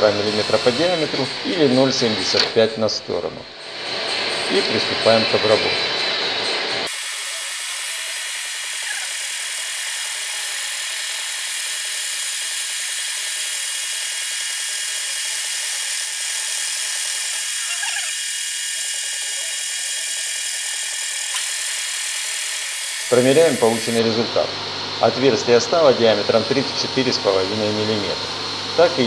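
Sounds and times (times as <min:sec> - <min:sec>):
boring machine cutting metal: 0:00.0 - 0:29.0.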